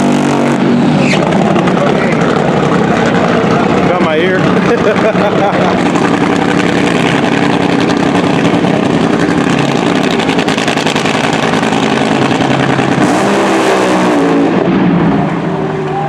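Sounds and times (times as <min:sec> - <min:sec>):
car engine running loudly: 0:00.0 - 0:16.0.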